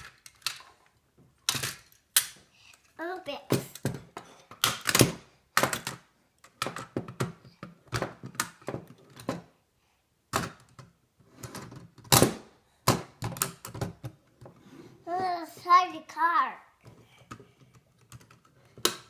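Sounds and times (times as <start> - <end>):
toy car parts clicking and knocking: 0.0 - 9.5, 10.3 - 14.6, 16.8 - 19.0.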